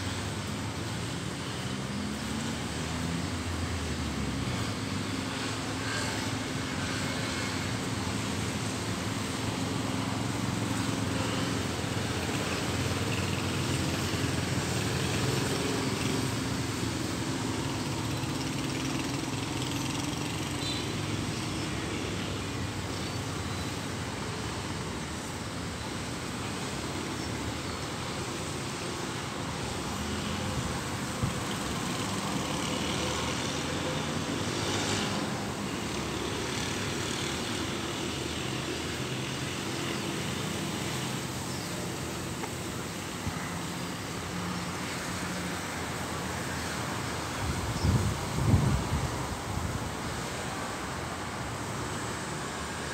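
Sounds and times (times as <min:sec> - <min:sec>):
distant traffic drone: 0:00.0 - 0:52.9.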